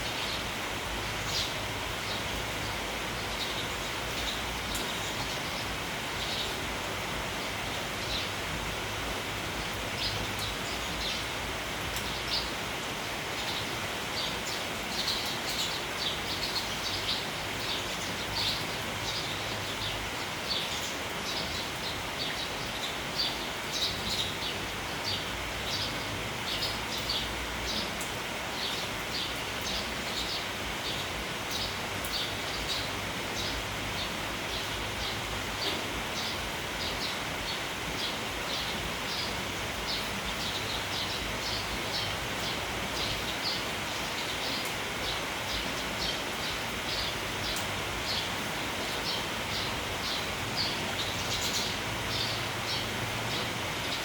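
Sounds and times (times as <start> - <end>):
sparrows chirping: 0.0 - 54.0
steady rain: 0.0 - 54.0.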